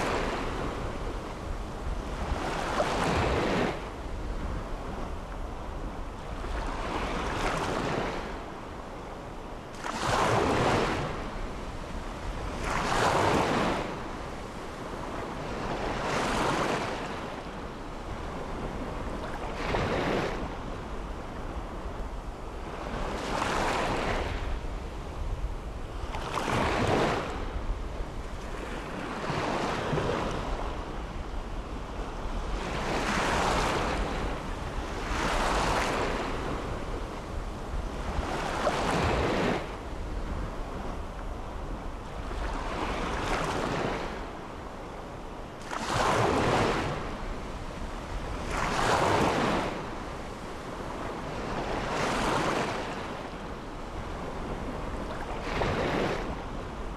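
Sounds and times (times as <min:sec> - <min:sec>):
small waves breaking on a beach: 0:00.0 - 0:56.9.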